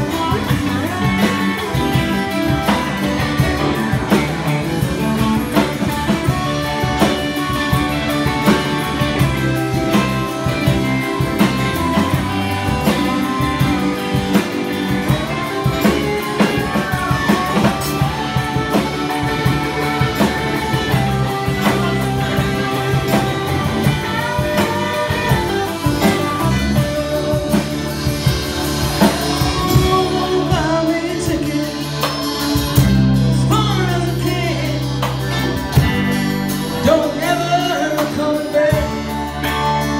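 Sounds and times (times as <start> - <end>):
person singing: 0.0 - 4.2, 8.4 - 32.4, 33.4 - 35.2, 36.8 - 39.9
drum kit: 0.0 - 39.9
electric guitar: 0.0 - 39.9.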